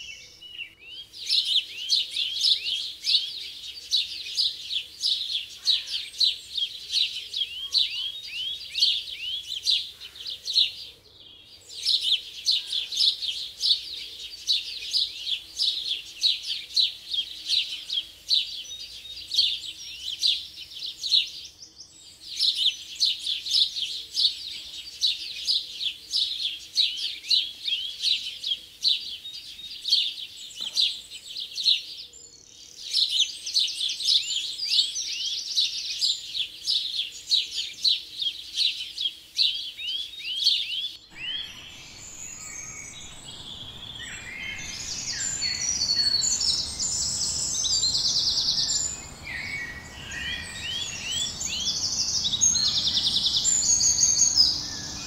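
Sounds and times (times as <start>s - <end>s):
flock of small birds chirping: 0.0s - 55.0s.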